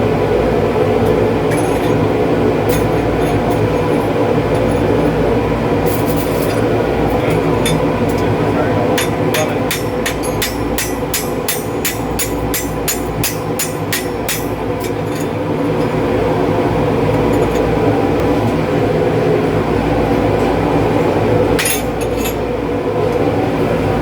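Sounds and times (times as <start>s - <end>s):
workshop machine hum: 0.0s - 24.0s.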